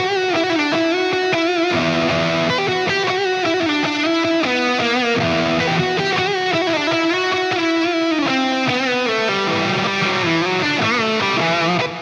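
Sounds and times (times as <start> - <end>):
distorted electric guitar solo: 0.0 - 12.0.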